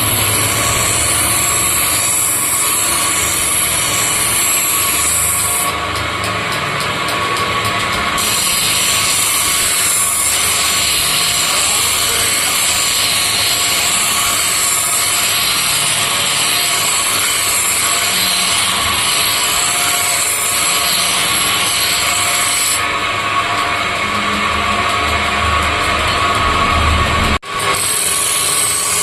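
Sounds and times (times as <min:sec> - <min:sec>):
grinder motor hum: 0:00.0 - 0:29.0
metal grinding hiss: 0:00.0 - 0:29.0.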